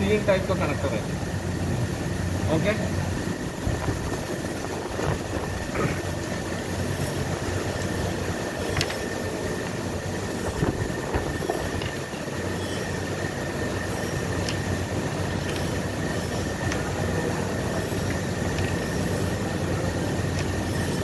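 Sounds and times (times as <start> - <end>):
mechanical hum with high whine: 0.0 - 21.0.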